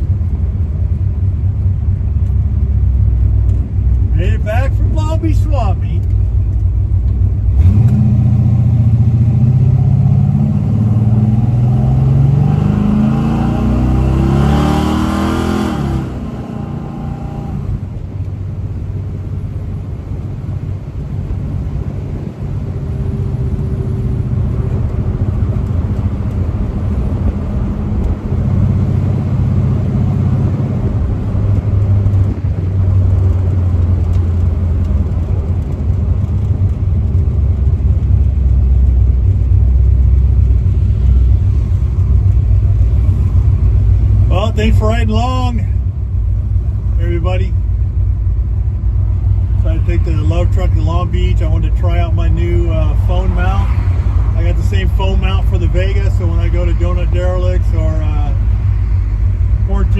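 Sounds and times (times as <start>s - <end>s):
pickup engine accelerating: 0.0s - 59.9s.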